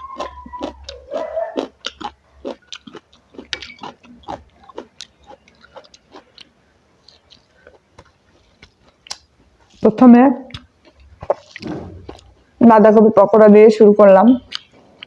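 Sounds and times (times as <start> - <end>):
eating clicks and crunches: 0.0 - 12.5, 14.4 - 15.0.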